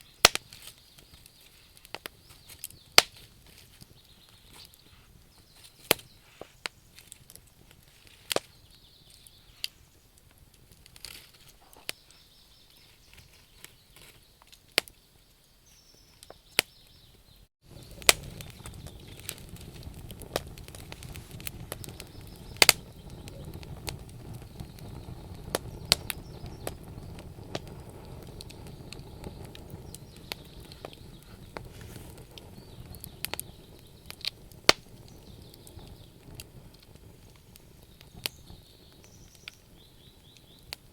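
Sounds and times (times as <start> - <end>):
low rush of flames: 0.0 - 14.8, 17.6 - 40.9
campfire crackling and popping: 0.0 - 40.9.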